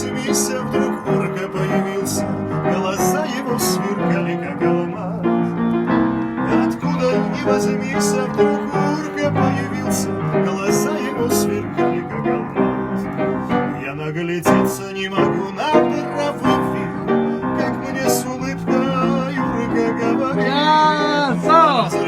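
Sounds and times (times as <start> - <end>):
keyboard chords: 0.0 - 22.0.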